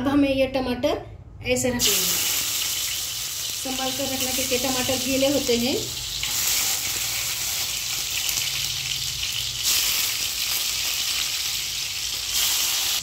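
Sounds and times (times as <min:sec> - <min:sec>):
hot oil sizzling: 0:01.8 - 0:13.0.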